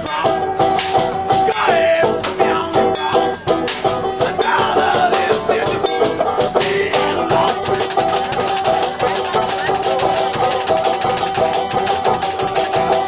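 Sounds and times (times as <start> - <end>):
banjo picking: 0.0 - 13.0
drums: 0.0 - 13.0.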